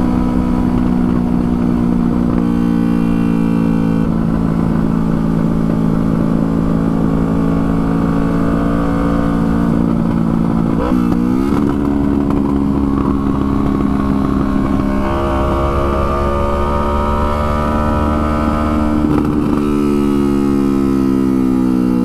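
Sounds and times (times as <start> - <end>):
motorcycle engine on the road: 0.0 - 22.0.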